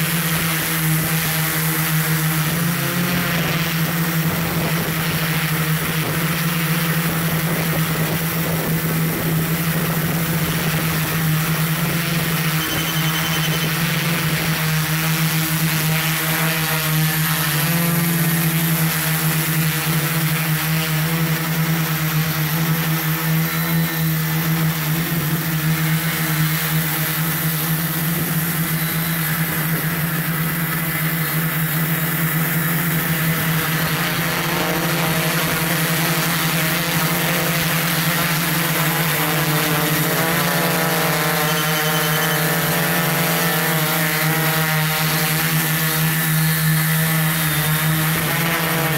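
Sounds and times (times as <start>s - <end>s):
drone propellers humming: 0.0s - 48.9s.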